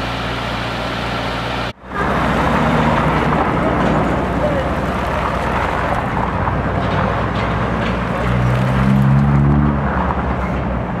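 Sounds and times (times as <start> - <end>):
road noise rumble: 0.0 - 11.0
vehicle engine hum: 0.0 - 11.0.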